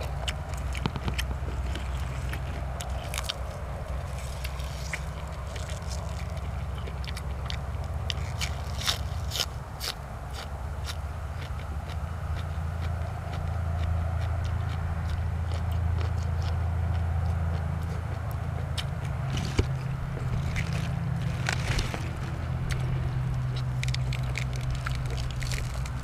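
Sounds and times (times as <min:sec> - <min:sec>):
chewing and mouth clicks: 0:00.0 - 0:26.0
steady low hum: 0:00.0 - 0:26.0.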